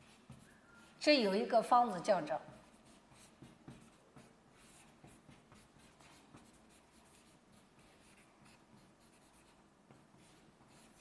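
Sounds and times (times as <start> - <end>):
pen or chalk writing strokes: 0.0 - 1.1, 2.4 - 11.0.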